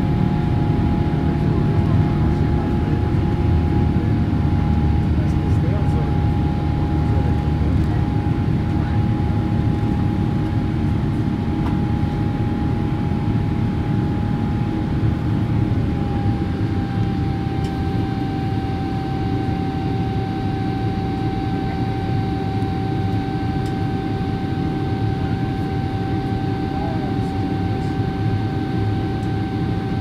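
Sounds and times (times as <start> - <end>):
jet engine deep rumble: 0.0 - 30.0
jet engine whine: 0.0 - 30.0.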